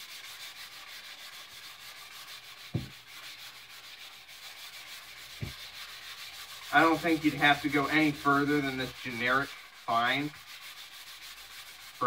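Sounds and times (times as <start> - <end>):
hand-sanding wood: 0.0 - 12.0.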